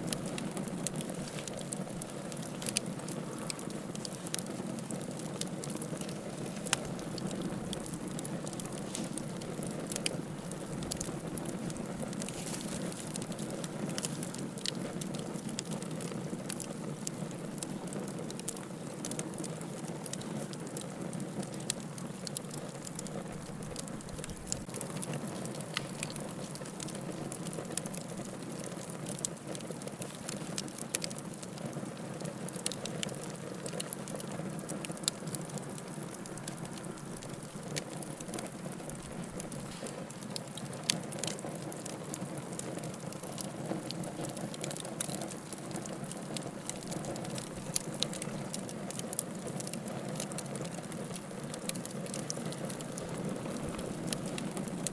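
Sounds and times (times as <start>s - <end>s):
firewood crackling and popping: 0.0s - 54.9s
flames rushing in fireplace: 0.0s - 54.9s.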